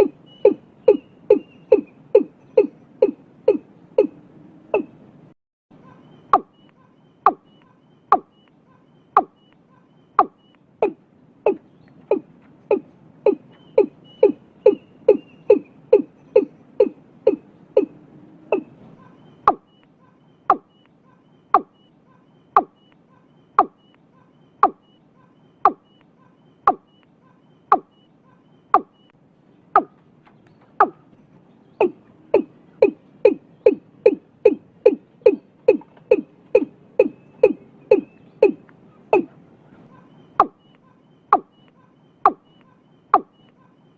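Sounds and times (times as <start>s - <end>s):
bird clucking calls: 0.0s - 5.0s, 5.8s - 43.9s.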